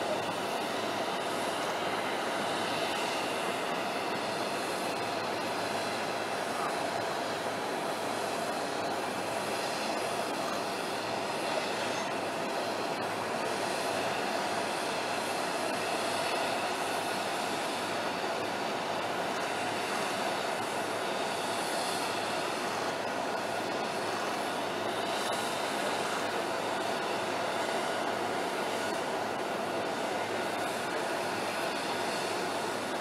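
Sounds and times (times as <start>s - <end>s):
jet aircraft noise with whine: 0.0s - 33.0s.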